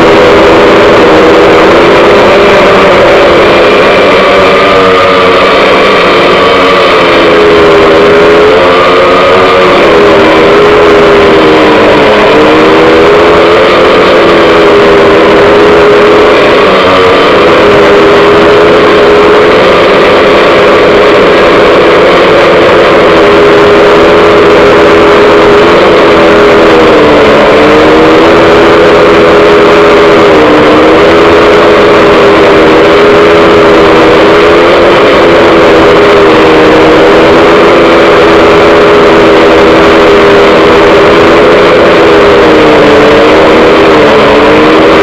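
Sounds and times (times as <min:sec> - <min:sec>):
drone motors buzzing: 0:00.0 - 0:45.0.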